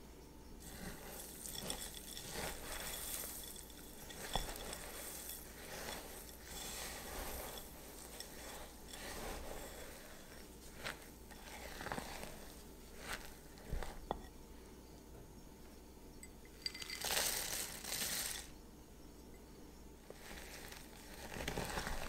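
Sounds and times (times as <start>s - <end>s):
spatula scraping and rustling in bowl: 0.6s - 14.4s, 16.4s - 18.5s, 20.0s - 22.0s.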